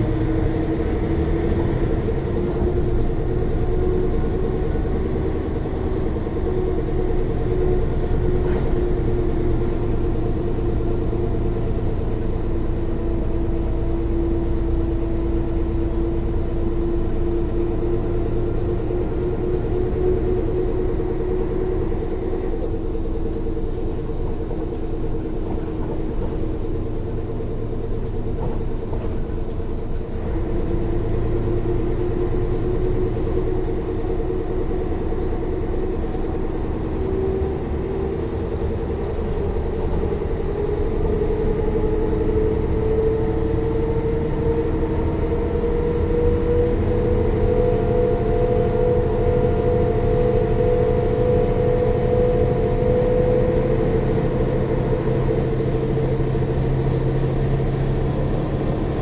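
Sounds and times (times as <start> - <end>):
bus diesel engine running: 0.0 - 59.0
rear axle whine: 0.0 - 59.0.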